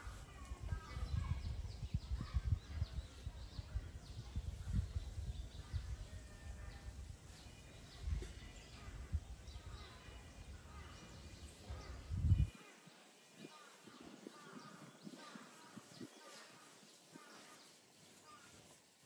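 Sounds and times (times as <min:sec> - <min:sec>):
wind rumble on microphone: 0:00.0 - 0:12.7, 0:13.4 - 0:16.5
faint bird chirps: 0:00.0 - 0:19.0
murmur of distant voices: 0:00.0 - 0:19.0.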